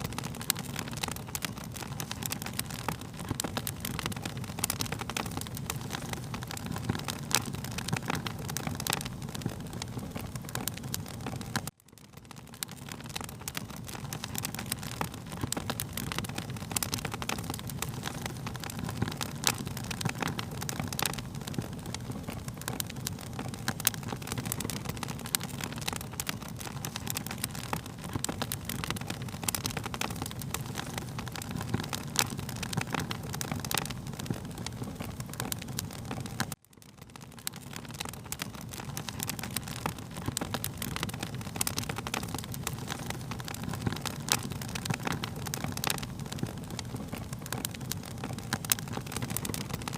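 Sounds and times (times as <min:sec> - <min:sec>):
low rumble of flames: 0:00.0 - 0:49.9
wood fire crackling and popping: 0:00.0 - 0:49.9.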